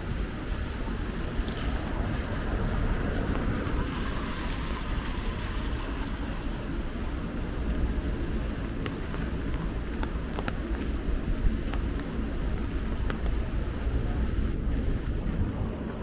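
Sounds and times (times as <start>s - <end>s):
city traffic on wet streets: 0.0s - 16.0s.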